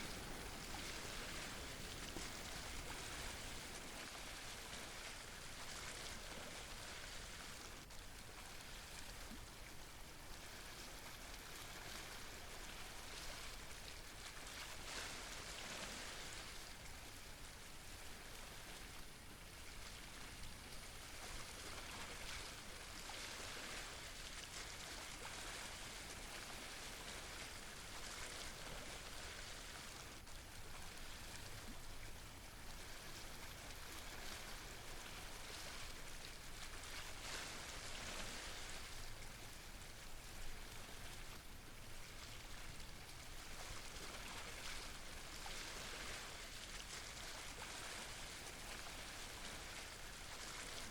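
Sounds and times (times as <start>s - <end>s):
sea water splashing over rocks: 0.0s - 17.4s, 18.0s - 50.9s.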